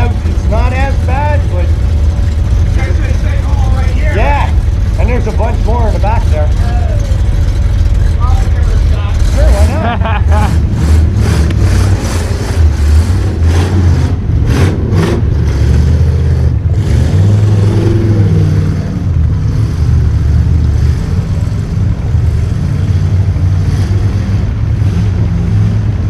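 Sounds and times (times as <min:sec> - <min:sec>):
atv engine revving: 0:00.0 - 0:26.0.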